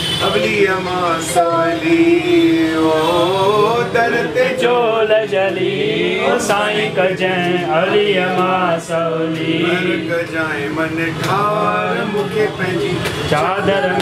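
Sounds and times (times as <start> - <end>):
men chanting: 0.2 - 14.0.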